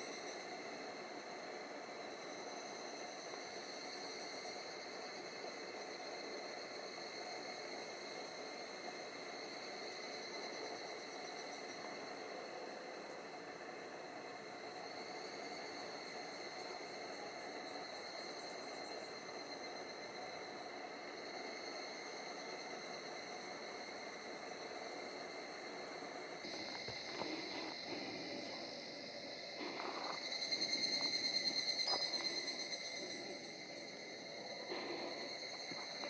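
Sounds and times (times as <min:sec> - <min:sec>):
cicadas chorus: 0:00.0 - 0:36.0.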